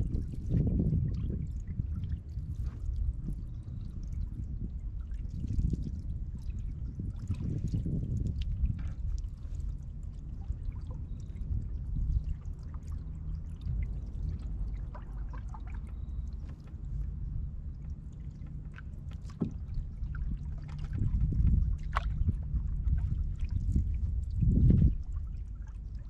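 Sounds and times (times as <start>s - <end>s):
low rumble: 0.0s - 26.0s
small paddle splashes: 0.0s - 26.0s
water trickling and dripping: 0.0s - 26.0s.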